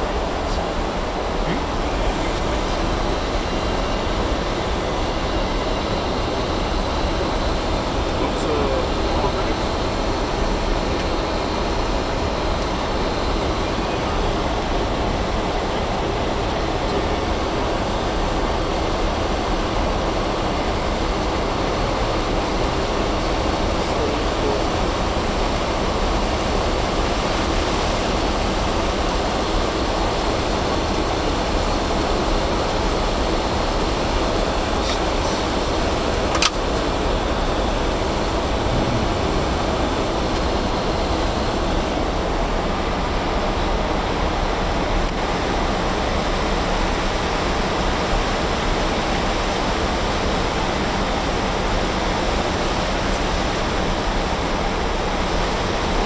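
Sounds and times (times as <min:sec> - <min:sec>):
airliner cockpit engine rush: 0:00.0 - 0:56.0.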